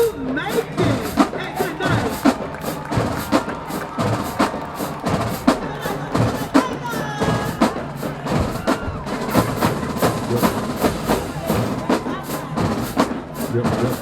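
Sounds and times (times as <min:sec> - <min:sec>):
crowd voices: 0:00.0 - 0:14.0
drumline playing cadence: 0:00.0 - 0:14.0.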